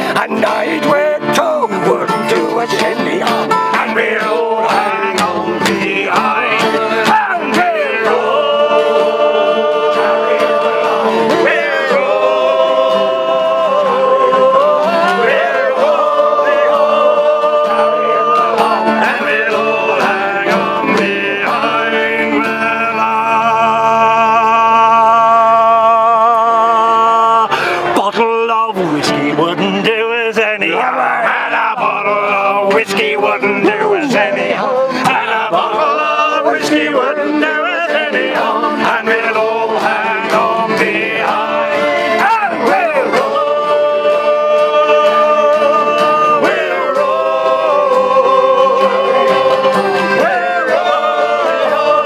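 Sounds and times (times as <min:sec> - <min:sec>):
ukulele: 0:00.0 - 0:23.6, 0:27.5 - 0:52.0
men singing in harmony: 0:00.0 - 0:52.0
strummed acoustic guitar: 0:00.0 - 0:52.0.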